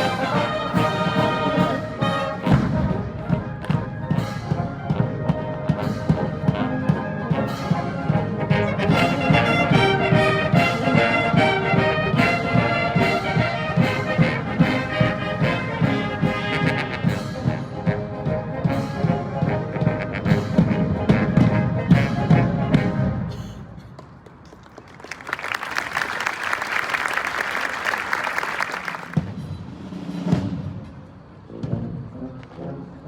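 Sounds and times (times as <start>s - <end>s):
military band playing a march: 0.0s - 23.6s, 25.1s - 33.0s.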